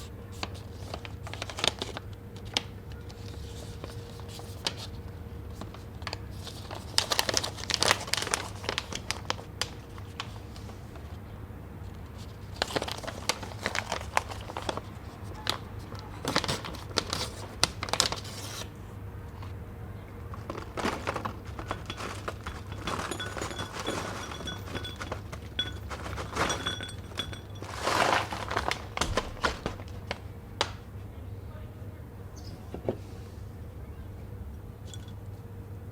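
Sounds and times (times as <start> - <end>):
plastic packaging crinkling: 0.0 - 11.2, 11.9 - 18.8, 20.1 - 30.8.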